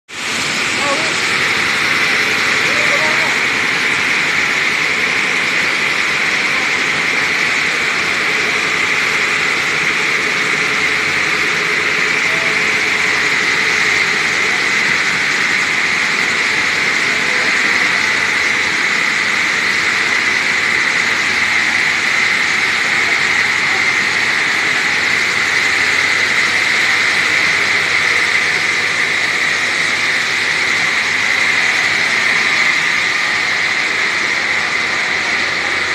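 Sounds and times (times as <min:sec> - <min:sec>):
machinery droning: 0:00.1 - 0:35.9.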